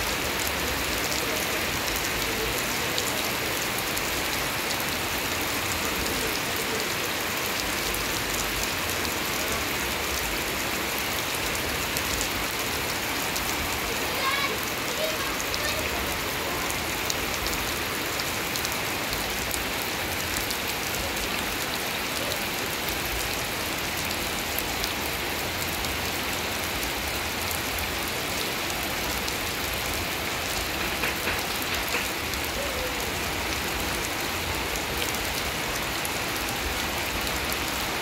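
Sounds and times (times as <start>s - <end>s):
steady rain on grass and leaves: 0.0s - 38.0s.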